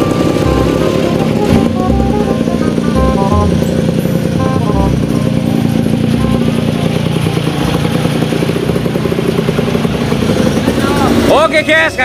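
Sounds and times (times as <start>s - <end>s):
go-kart engine puttering: 0.0s - 12.0s.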